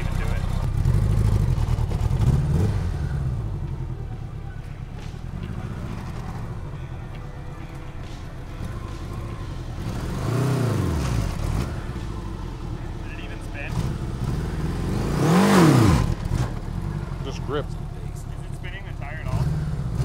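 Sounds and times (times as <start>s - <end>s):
motorcycle engine revving: 0.0s - 7.0s, 8.0s - 20.0s
motorcycle engine: 0.0s - 20.0s.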